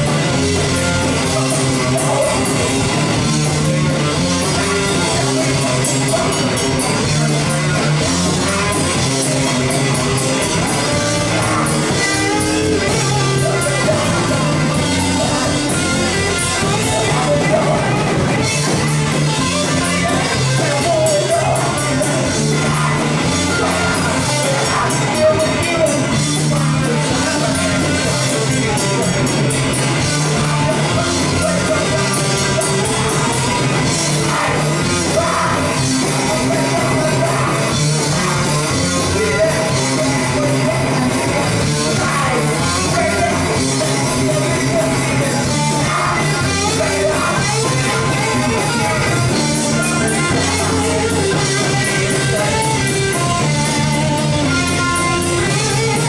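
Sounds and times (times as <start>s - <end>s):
drums: 0.0s - 56.0s
electric bass: 0.0s - 56.0s
guitars: 0.0s - 56.0s
person singing: 0.0s - 56.0s.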